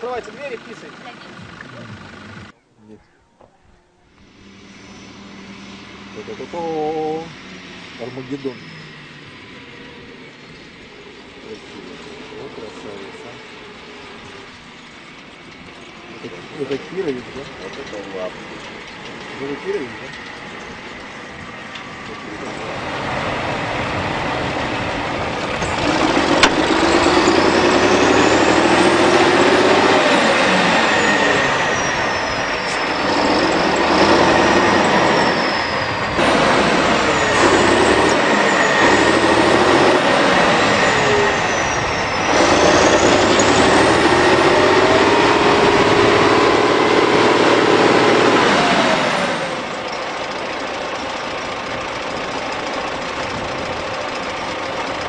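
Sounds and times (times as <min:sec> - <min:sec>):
tractor diesel engine revving: 0:00.0 - 0:02.6, 0:04.0 - 0:55.0
high whine: 0:03.7 - 0:55.0.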